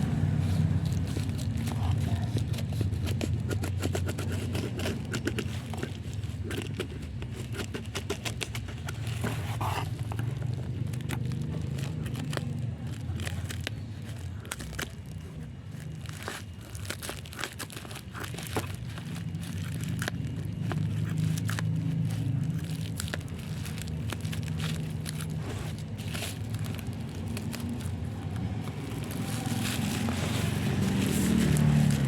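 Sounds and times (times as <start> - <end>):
plastic packaging crinkling: 0.0 - 32.0.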